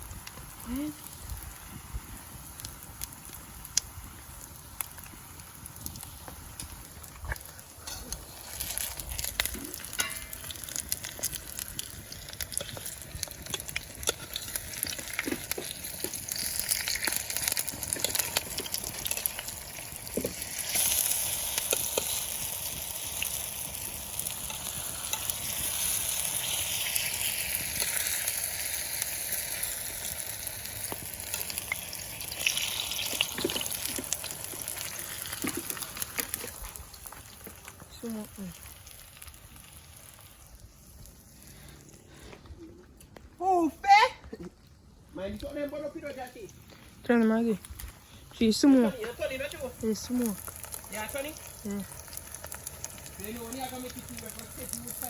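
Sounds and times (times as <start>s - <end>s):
dumplings sizzling in hot oil: 0.0s - 42.3s, 46.3s - 55.0s
oil crackling and popping: 0.0s - 55.0s.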